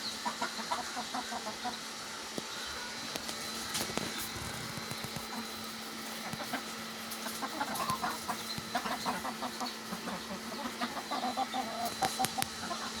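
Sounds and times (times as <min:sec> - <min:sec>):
chickens clucking: 0:00.0 - 0:13.0
faint steady hum: 0:00.0 - 0:13.0.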